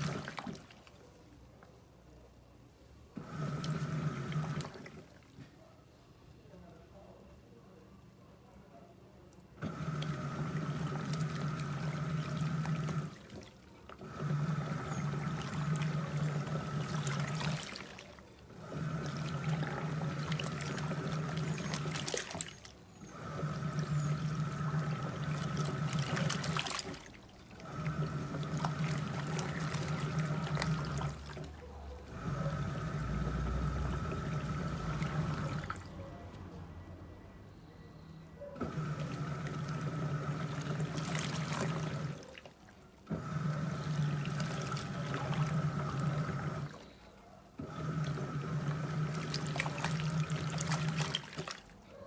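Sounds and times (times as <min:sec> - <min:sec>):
water churning in drum: 0:00.0 - 0:01.2, 0:03.2 - 0:05.5, 0:09.6 - 0:36.0, 0:38.6 - 0:52.0
washing machine motor hum: 0:00.0 - 0:07.2, 0:08.0 - 0:37.5, 0:38.1 - 0:52.0.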